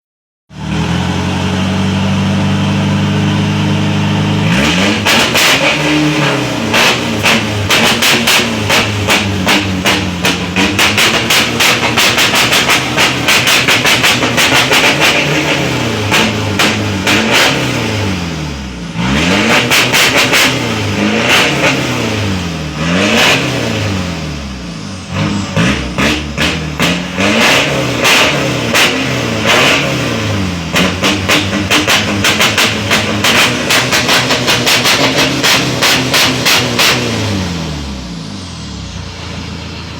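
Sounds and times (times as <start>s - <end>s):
diesel engine idling and revving: 0.5s - 39.9s.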